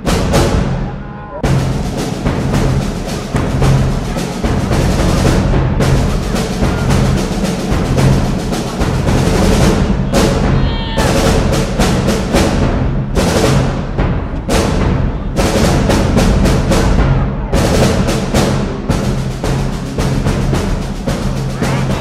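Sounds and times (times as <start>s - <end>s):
heavy fast drums: 0.0s - 22.0s
steady bass: 0.0s - 22.0s.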